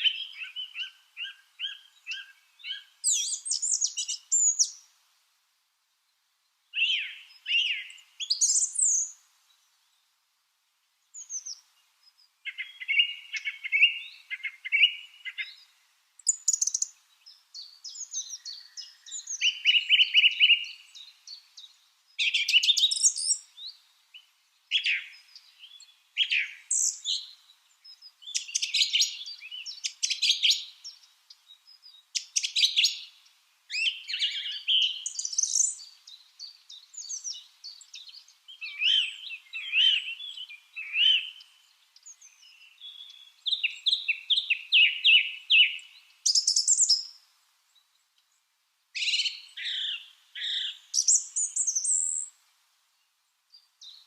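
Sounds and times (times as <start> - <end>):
lovebirds chirping and trilling: 0.0 - 4.9, 6.7 - 10.1, 11.0 - 48.4, 49.0 - 54.0.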